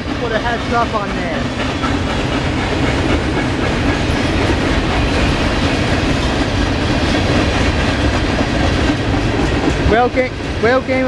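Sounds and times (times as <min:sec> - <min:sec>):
train wheels clattering over rail joints: 0:00.0 - 0:11.0.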